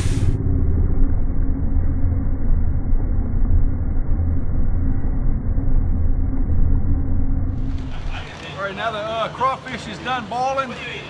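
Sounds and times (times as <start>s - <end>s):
propane burner rumbling: 0.0s - 11.0s.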